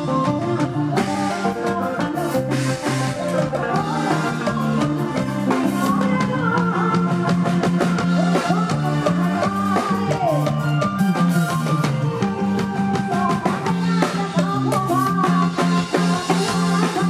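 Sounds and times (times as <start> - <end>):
drum kit beat: 0.0 - 17.0
live band music: 0.0 - 17.0.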